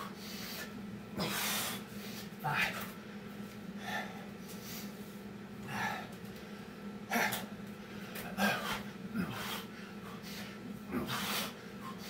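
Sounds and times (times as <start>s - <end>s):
man breathing hard: 0.0s - 2.9s, 3.8s - 12.0s.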